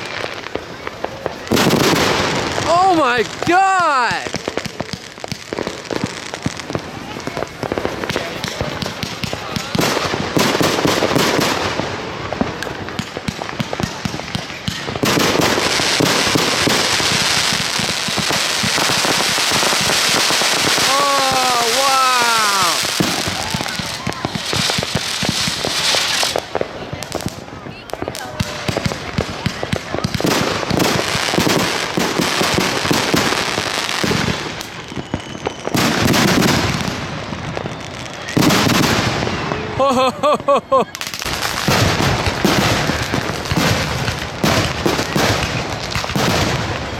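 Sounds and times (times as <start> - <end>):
fireworks cracking and popping: 0.0 - 46.9
fireworks dense crackling hiss: 0.0 - 46.9.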